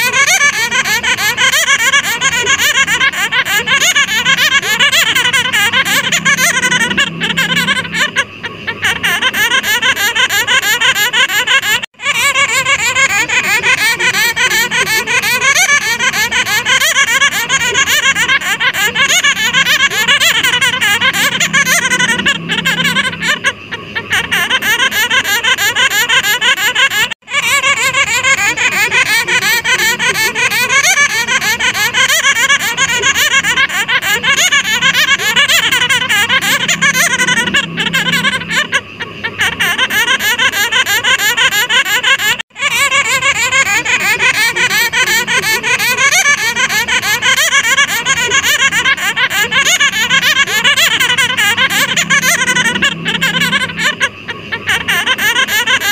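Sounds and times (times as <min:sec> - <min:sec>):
fruit bats calling: 0:00.0 - 0:55.9.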